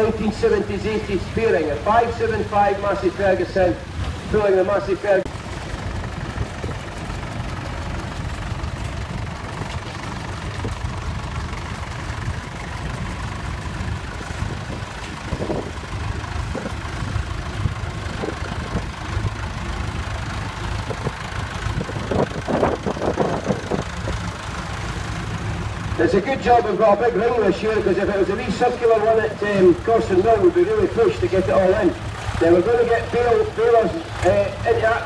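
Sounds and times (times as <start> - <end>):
tractor engines running: 0.0 - 35.0.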